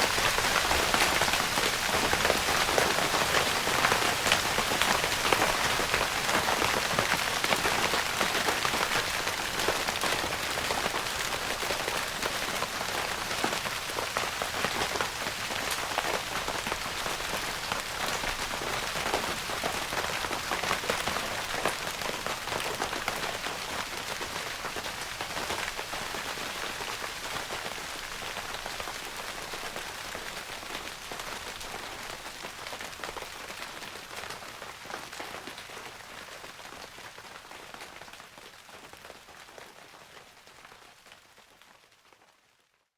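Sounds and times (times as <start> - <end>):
rain pattering on tent fabric: 0.0 - 42.9.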